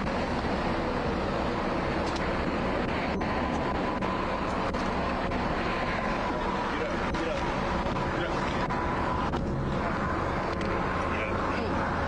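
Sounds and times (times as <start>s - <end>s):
faint steady tones: 0.0s - 12.0s
vehicle engine roar: 0.0s - 12.0s.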